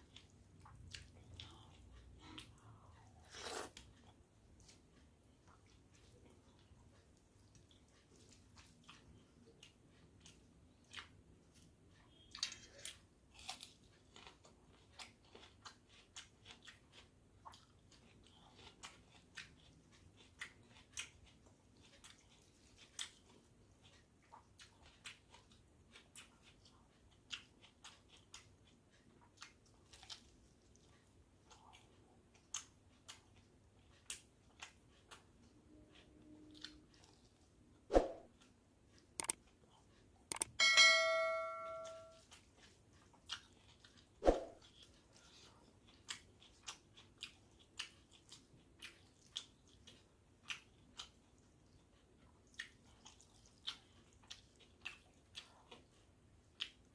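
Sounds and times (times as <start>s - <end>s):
person chewing food: 0.0s - 40.5s, 41.8s - 56.9s.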